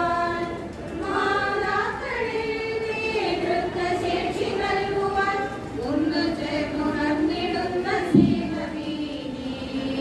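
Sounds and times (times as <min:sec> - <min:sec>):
women singing in unison: 0:00.0 - 0:10.0.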